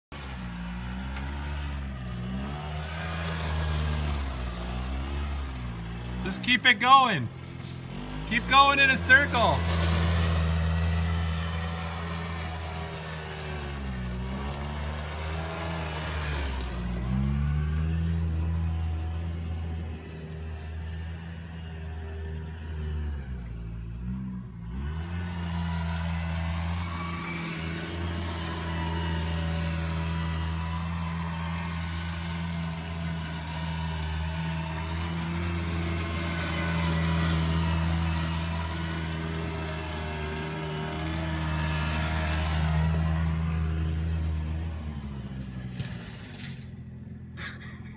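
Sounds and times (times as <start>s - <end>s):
quad engine running: 0.1s - 47.9s.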